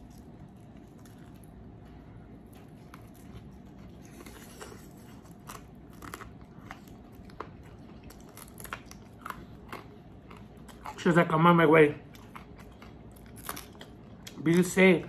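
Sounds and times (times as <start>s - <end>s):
chewing: 0.0s - 11.3s, 12.0s - 14.7s.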